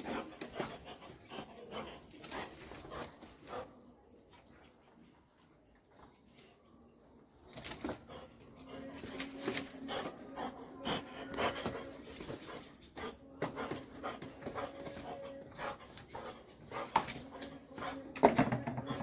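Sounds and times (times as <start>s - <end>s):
dog panting: 0.0s - 4.8s, 7.6s - 19.0s.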